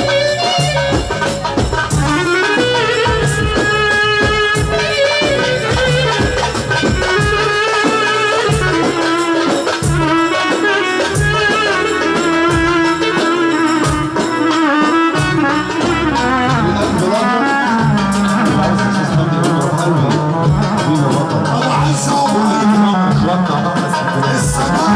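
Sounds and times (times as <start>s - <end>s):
drums and hand percussion: 0.0s - 24.9s
wavering lead melody: 0.0s - 24.9s.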